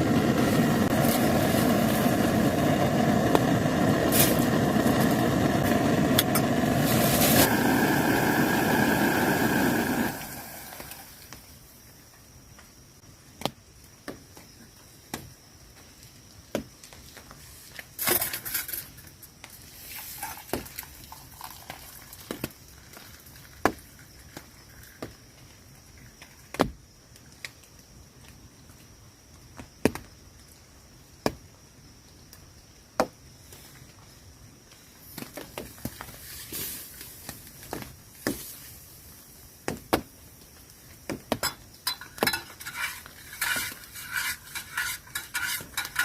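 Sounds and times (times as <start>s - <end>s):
faint steady hiss: 0.0s - 46.0s
rustle: 4.0s - 46.0s.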